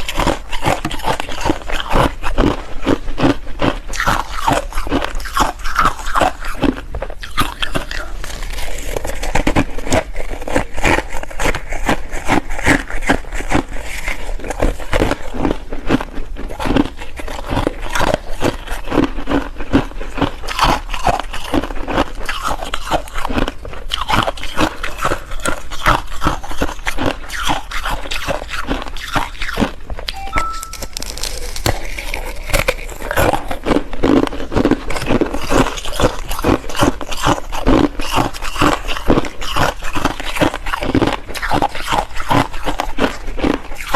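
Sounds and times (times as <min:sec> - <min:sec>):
ice being chewed: 0:00.0 - 0:43.9.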